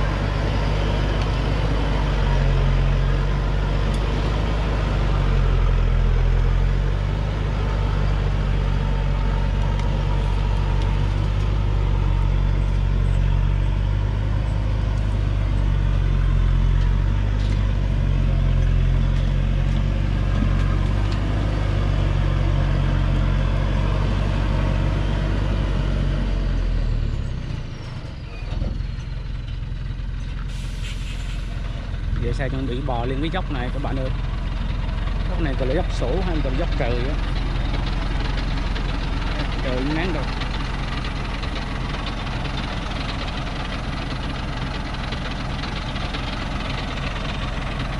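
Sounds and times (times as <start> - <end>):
truck diesel engine pulling hard: 0.0 - 47.9.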